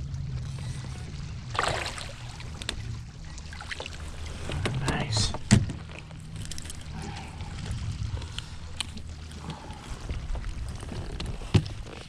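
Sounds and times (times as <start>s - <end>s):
low boat rumble: 0.0s - 12.0s.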